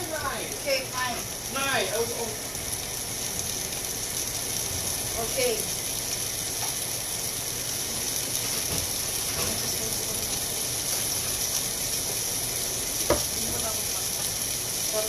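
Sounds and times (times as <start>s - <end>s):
food hissing on stove: 0.0s - 15.0s.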